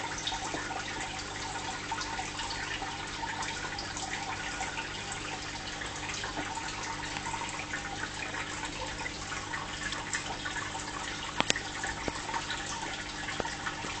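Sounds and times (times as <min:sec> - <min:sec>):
fish tank water trickling: 0:00.0 - 0:14.0.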